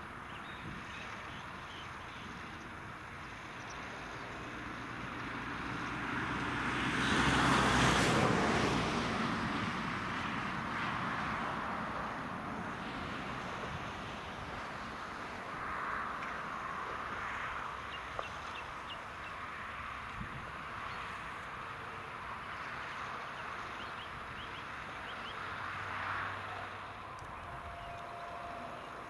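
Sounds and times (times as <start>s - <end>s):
tractor engine hum: 0.0s - 29.0s.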